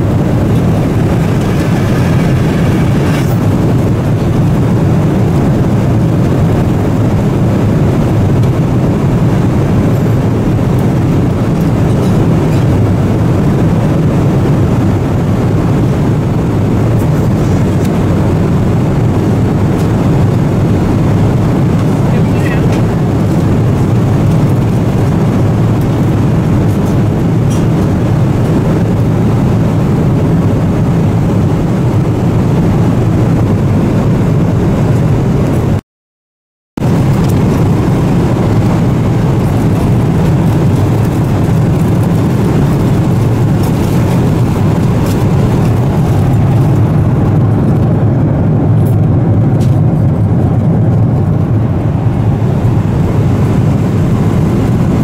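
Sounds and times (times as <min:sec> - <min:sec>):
airplane cabin rumble: 0:00.0 - 0:35.8, 0:36.8 - 0:55.0.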